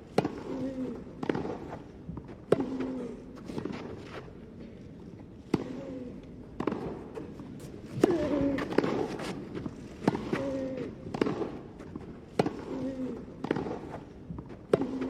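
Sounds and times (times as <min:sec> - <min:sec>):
rackets striking tennis ball: 0:00.0 - 0:04.4, 0:05.4 - 0:15.0.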